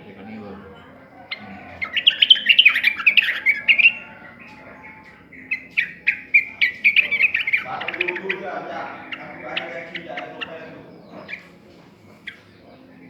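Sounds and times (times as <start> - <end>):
bird singing bright chirps: 0.0 - 13.0.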